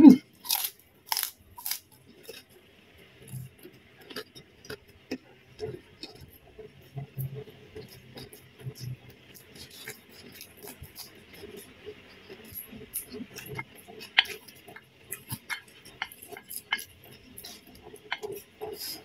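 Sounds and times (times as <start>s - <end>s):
crunchy vegetables being chewed: 0.2s - 2.6s, 3.2s - 19.0s.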